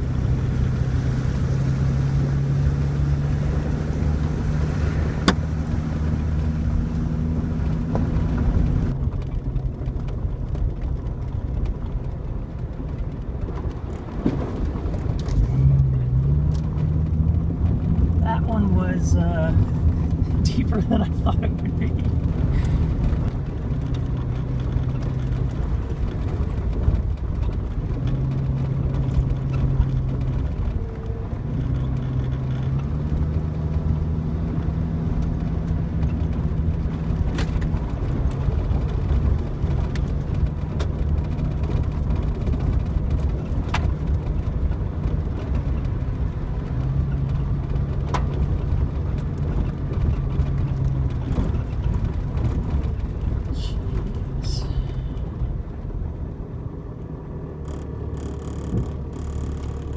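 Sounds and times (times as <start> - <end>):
car engine droning: 0.0 - 59.9.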